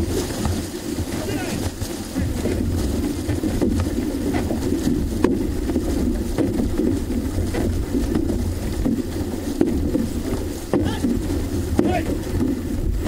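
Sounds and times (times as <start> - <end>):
paddle splashes: 0.0 - 13.0
water rushing along canoe hull: 0.0 - 13.0
wind on microphone: 2.2 - 13.0.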